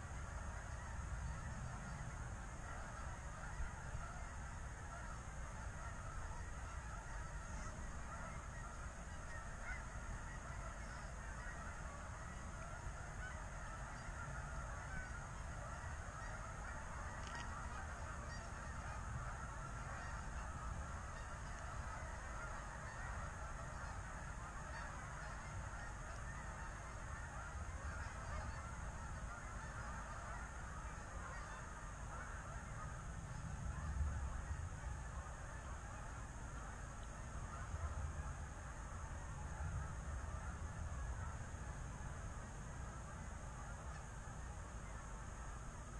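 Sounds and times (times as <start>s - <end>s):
geese honking: 0.0s - 45.9s
low steady rumble: 0.0s - 45.9s.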